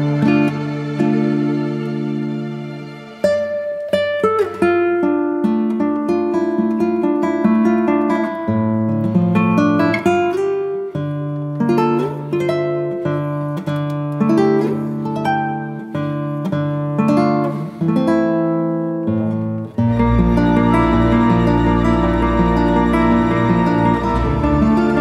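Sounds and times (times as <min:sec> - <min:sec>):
acoustic guitar plucked notes: 0:00.0 - 0:25.0.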